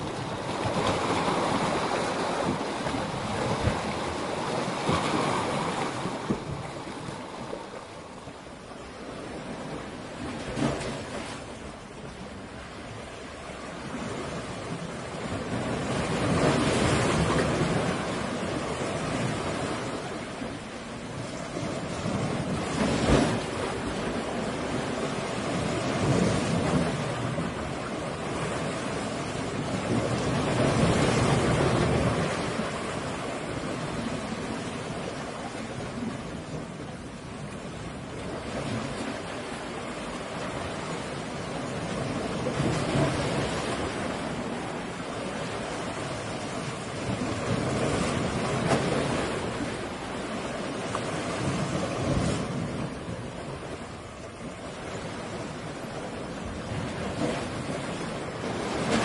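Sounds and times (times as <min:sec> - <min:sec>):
sea waves breaking against rocks: 0:00.0 - 0:59.0.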